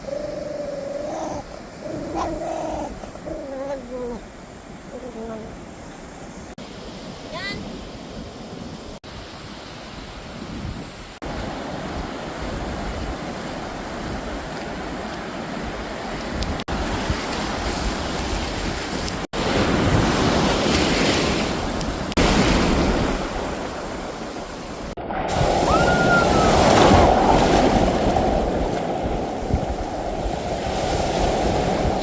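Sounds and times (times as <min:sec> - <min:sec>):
wind on microphone: 0:00.0 - 0:06.5, 0:07.4 - 0:32.0
sea waves breaking on shore: 0:00.0 - 0:32.0.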